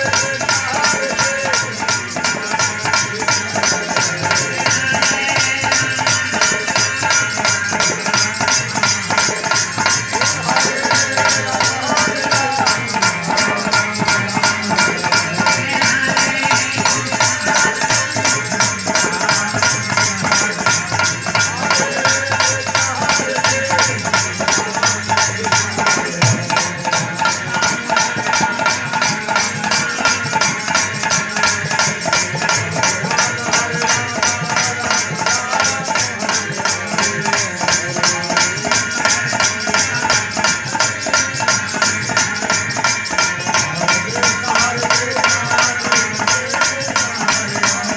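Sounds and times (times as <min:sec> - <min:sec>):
shaken percussion: 0:00.0 - 0:47.9.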